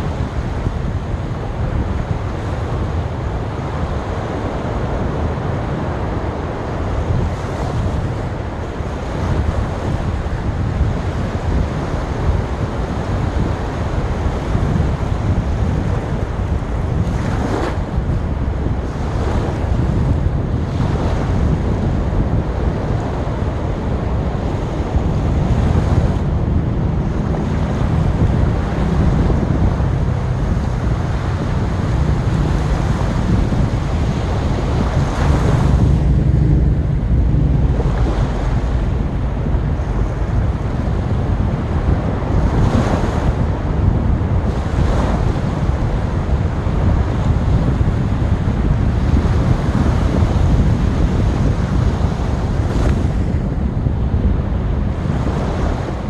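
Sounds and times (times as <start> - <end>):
waves breaking ashore: 0.0 - 56.0
wind buffeting microphone: 0.0 - 56.0.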